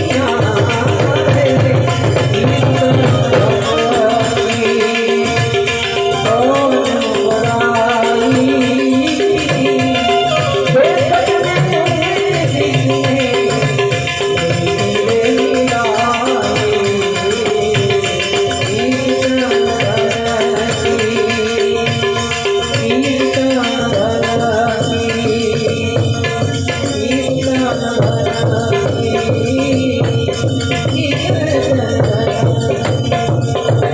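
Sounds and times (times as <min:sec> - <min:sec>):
hand percussion: 0:00.0 - 0:33.9
harmonium melody: 0:00.0 - 0:33.9.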